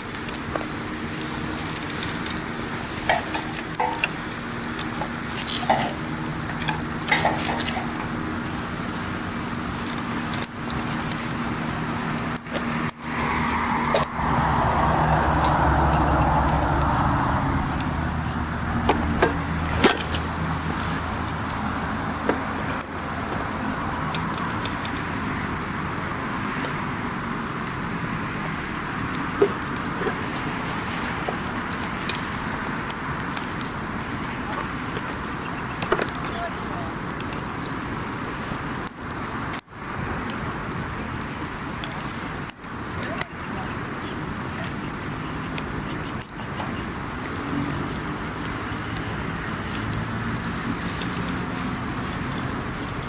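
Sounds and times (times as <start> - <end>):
campfire crackling and popping: 0.0 - 53.0
fire rushing hiss: 0.0 - 53.0.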